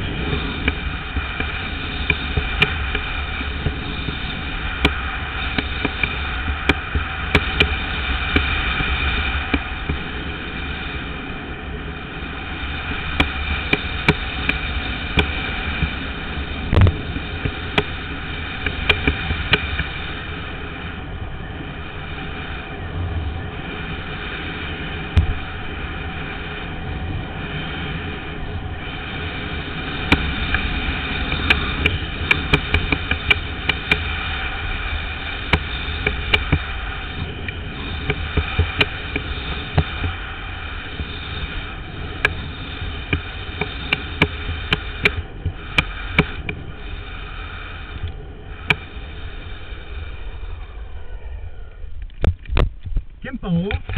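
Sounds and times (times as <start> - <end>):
longboard wheels rolling on asphalt: 0.0 - 53.9.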